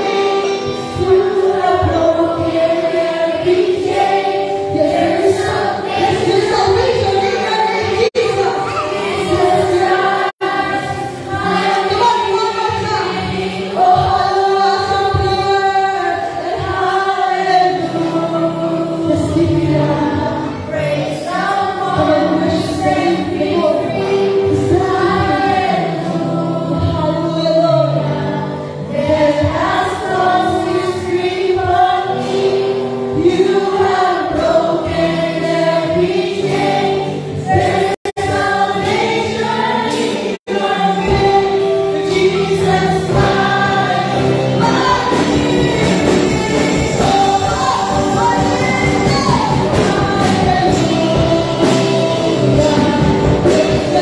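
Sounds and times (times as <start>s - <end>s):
live band with guitars and drums: 0.0s - 54.0s
voices singing along: 0.0s - 54.0s
woman singing gospel song: 0.0s - 54.0s.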